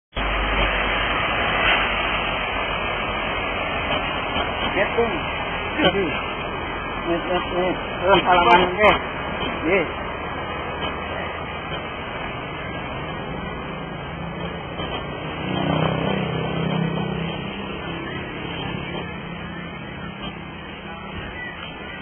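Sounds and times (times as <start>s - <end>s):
street noise: 0.1s - 22.0s.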